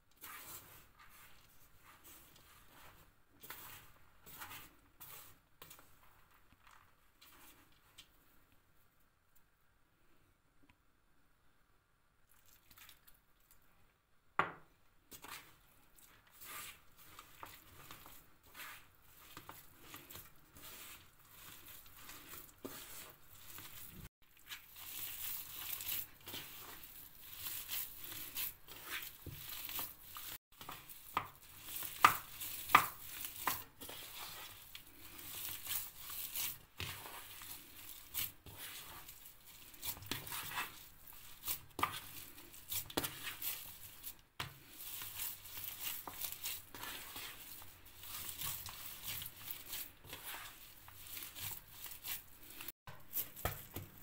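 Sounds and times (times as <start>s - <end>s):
hands kneading mixture squishing: 0.0s - 8.8s, 12.2s - 14.0s, 14.8s - 54.0s.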